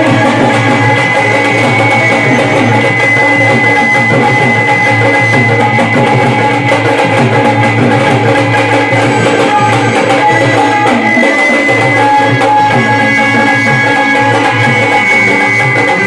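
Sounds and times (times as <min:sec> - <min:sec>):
hand drums playing rhythm: 0:00.0 - 0:16.0.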